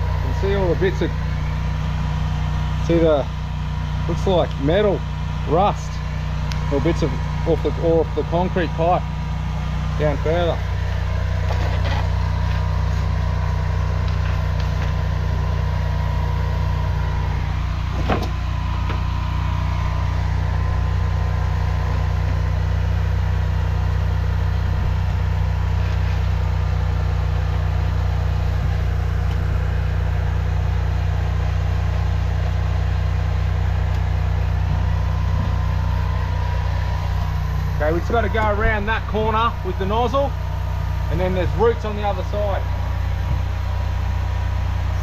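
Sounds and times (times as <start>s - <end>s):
drain jetter engine running: 0.0s - 45.0s.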